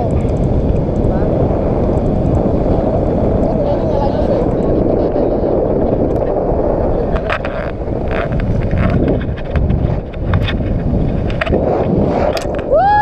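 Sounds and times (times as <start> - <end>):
heavy wind on microphone: 0.0 - 13.0.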